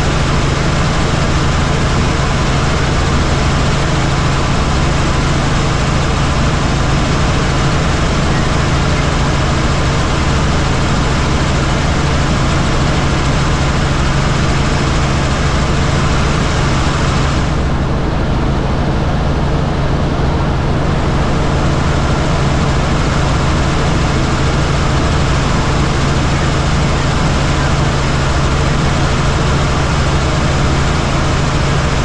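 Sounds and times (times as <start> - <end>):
helicopter rotor and engine: 0.0 - 32.0.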